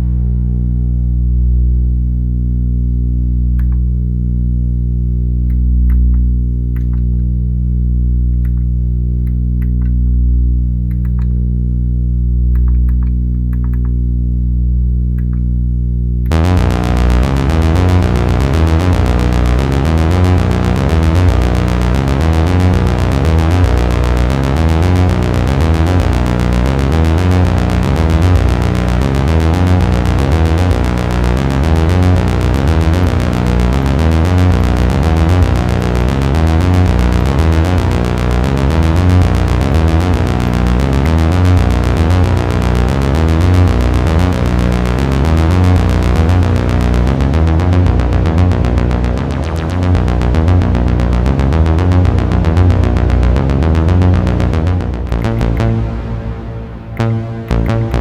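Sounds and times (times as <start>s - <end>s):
synthesizer step-sequenced riff: 0.0s - 7.6s, 8.3s - 14.0s, 16.2s - 58.0s
low synth bass line: 0.0s - 58.0s.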